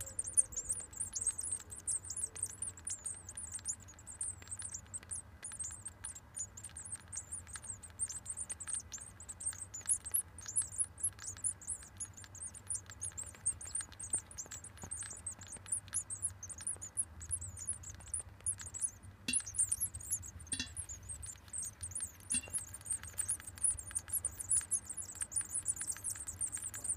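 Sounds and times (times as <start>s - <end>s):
low steady hum: 0.0s - 26.9s
nestlings peeping: 0.0s - 26.9s.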